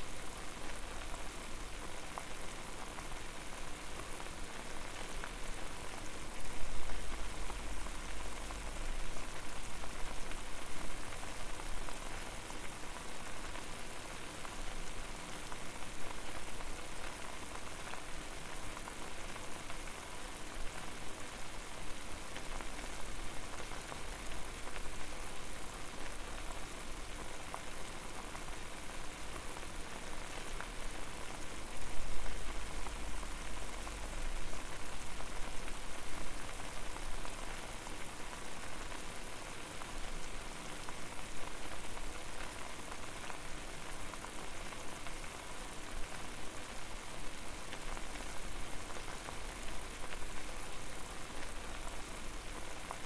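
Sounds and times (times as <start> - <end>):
water boiling hard in a pot: 0.0 - 53.0.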